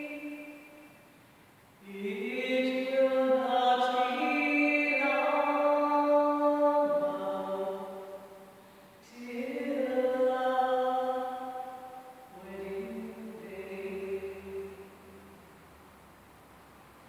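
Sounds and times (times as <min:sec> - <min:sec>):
person singing long notes: 0:00.0 - 0:00.9, 0:01.8 - 0:15.0.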